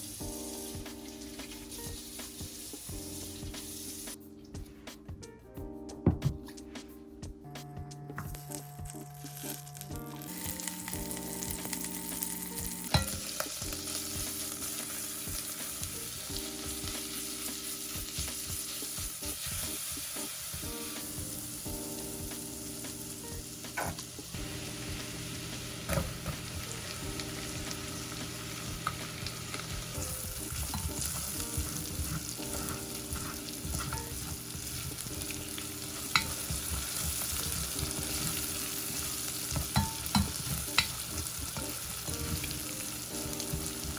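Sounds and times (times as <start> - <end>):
food sizzling in a frying pan: 0.0 - 4.2, 8.4 - 43.9.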